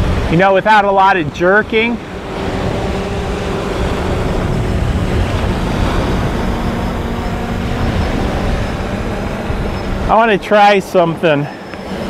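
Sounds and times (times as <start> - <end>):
quadcopter propellers humming: 0.0 - 12.0
wind buffeting microphone: 0.0 - 12.0.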